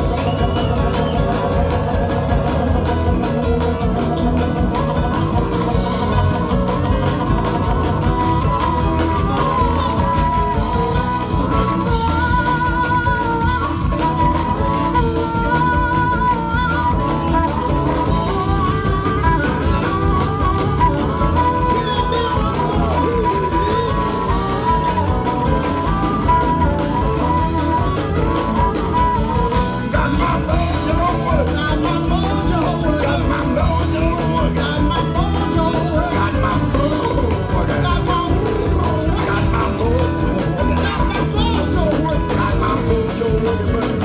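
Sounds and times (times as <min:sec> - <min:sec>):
electric guitar: 0:00.0 - 0:44.0
electric keyboard: 0:00.0 - 0:44.0
harmonica wailing bending notes: 0:00.0 - 0:44.0
woman singing: 0:00.0 - 0:44.0.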